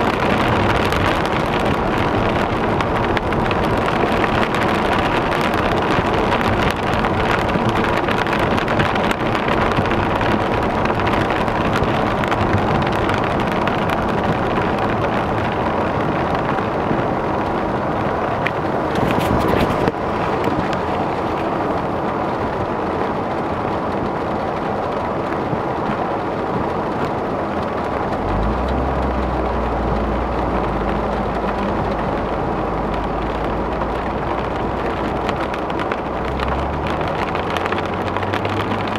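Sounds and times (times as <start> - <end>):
deep low rumble: 0.0 - 24.4, 27.1 - 38.9
rain on car body: 0.0 - 38.9
tyres on flooded road: 0.0 - 38.9.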